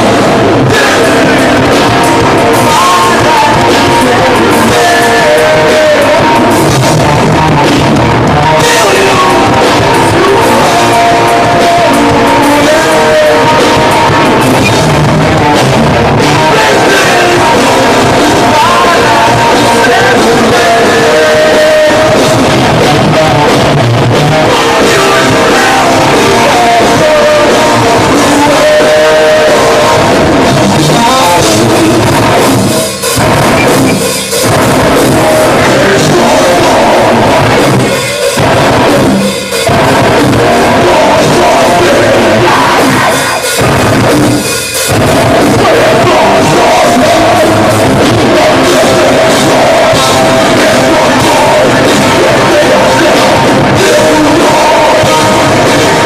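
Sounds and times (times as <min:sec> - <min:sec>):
distorted electric guitars: 0:00.0 - 0:56.0
drum kit: 0:00.0 - 0:56.0
vocals: 0:00.0 - 0:56.0.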